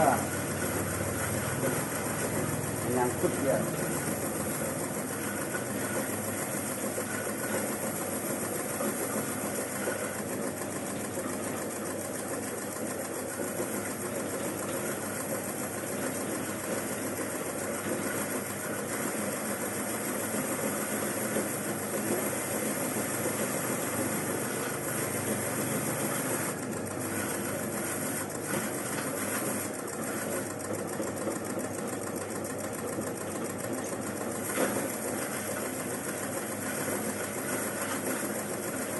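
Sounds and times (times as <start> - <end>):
machine motor running: 0.0 - 38.9.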